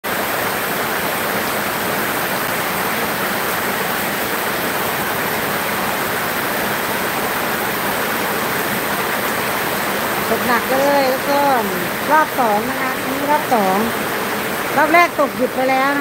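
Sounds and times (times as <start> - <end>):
heavy rain on roofs: 0.0 - 16.0.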